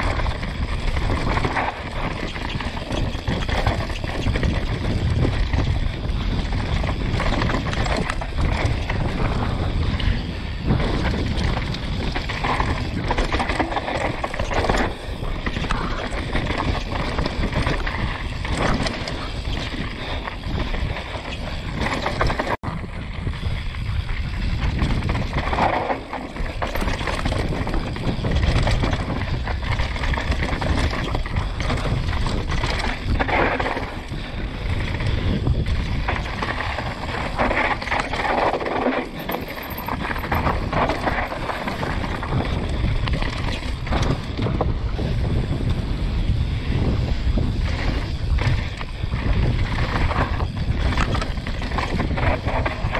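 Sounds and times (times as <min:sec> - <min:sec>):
bike rattling: 0:00.0 - 0:52.9
bike tyres rolling on gravel: 0:00.0 - 0:52.9
wind buffeting microphone: 0:00.0 - 0:52.9.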